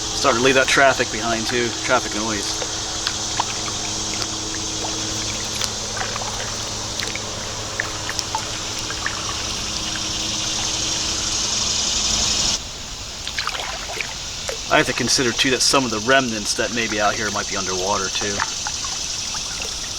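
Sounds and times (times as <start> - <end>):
creek water trickling: 0.0 - 19.9
steady low hum: 0.0 - 19.9
water drips and splashes: 0.0 - 19.9.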